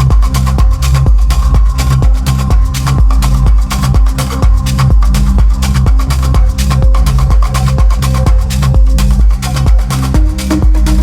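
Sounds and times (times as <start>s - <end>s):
deep bass line: 0.0s - 11.0s
electronic dance music: 0.0s - 11.0s.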